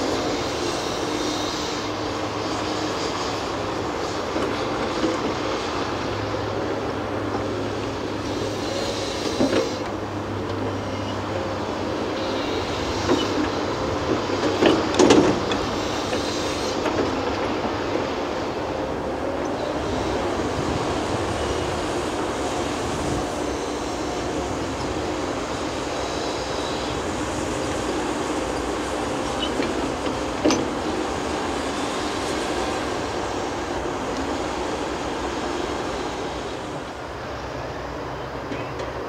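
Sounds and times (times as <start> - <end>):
excavator engine and hydraulic drone: 0.0 - 39.0.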